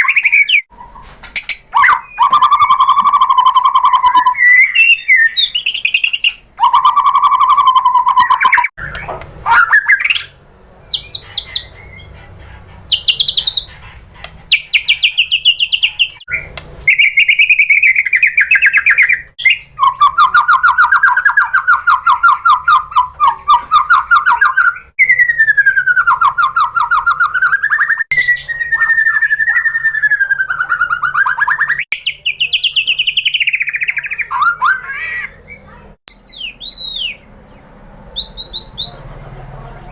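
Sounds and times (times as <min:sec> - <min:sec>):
bird singing trilled phrases: 0:00.0 - 0:39.1.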